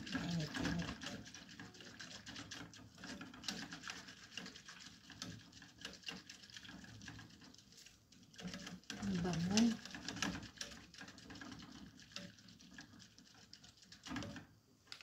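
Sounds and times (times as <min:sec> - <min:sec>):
whisk scraping saucepan: 0:00.0 - 0:14.5.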